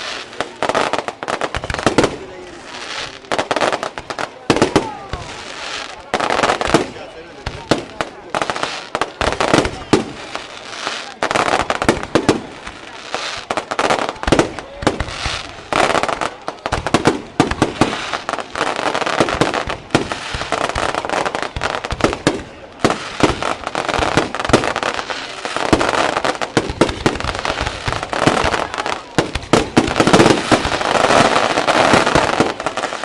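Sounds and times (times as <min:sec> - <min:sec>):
fireworks bangs and bursts: 0:00.0 - 0:33.0
fireworks crackling: 0:00.0 - 0:33.0.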